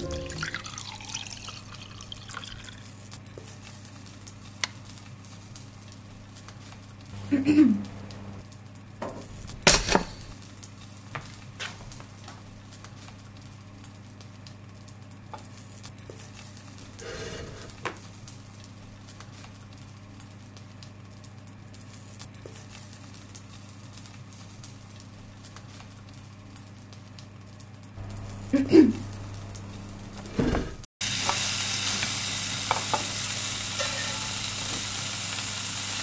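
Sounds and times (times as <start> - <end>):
low electrical hum: 0.0 - 35.9.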